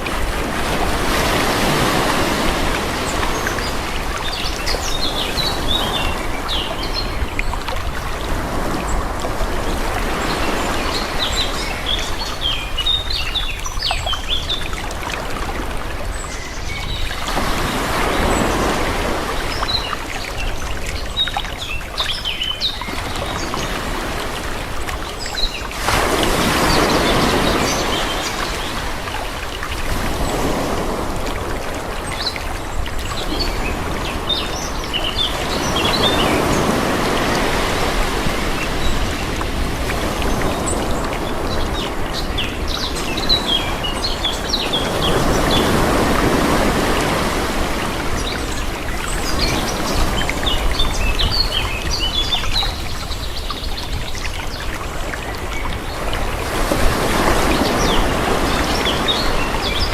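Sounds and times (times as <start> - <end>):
sea waves washing in: 0.0 - 13.9, 14.6 - 22.1, 22.8 - 59.9.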